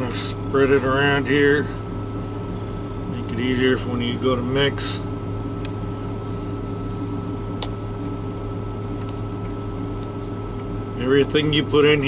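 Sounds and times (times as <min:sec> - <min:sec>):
faint whine: 0:00.0 - 0:12.0
low mechanical hum: 0:00.0 - 0:12.0.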